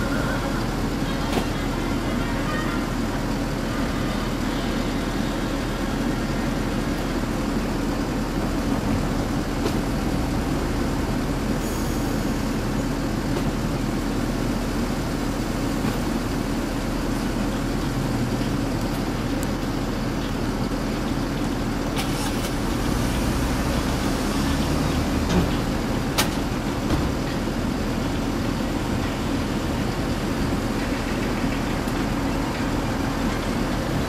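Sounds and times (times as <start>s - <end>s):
road traffic: 0.0s - 34.0s
streetcars rumbling: 0.0s - 34.0s.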